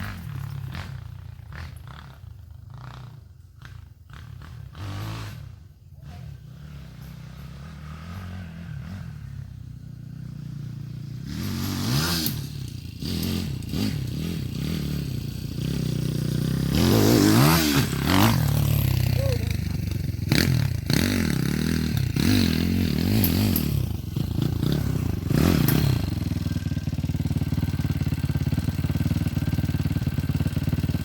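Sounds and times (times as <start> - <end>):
pit bike engine revving: 0.0 - 31.0.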